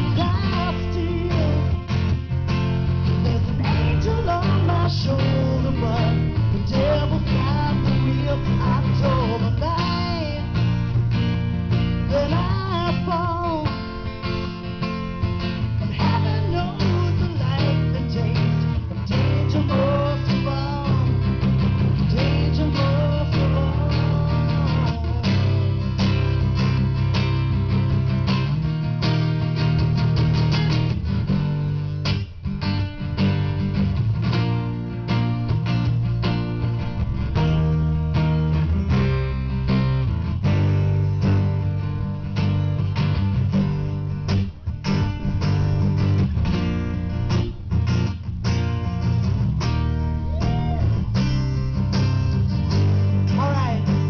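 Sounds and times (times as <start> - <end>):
blues-rock band playing: 0.0 - 54.0
guitars strummed and picked: 0.0 - 54.0.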